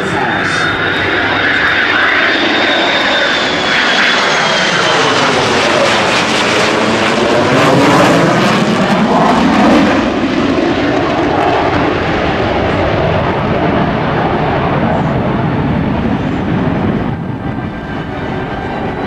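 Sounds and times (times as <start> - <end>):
aircraft engine roar: 0.0 - 19.0.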